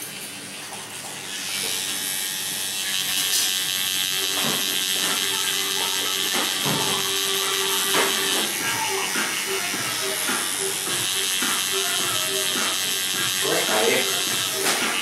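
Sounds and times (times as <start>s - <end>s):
tattoo machine buzzing: 0.8s - 15.0s.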